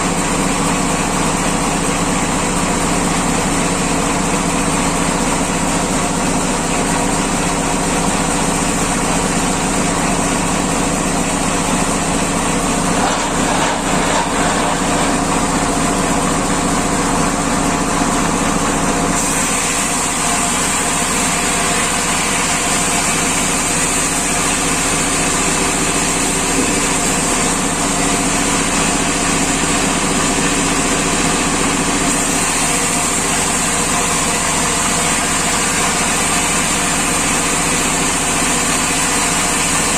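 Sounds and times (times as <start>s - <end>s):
sawmill machine engine running: 0.0s - 39.9s.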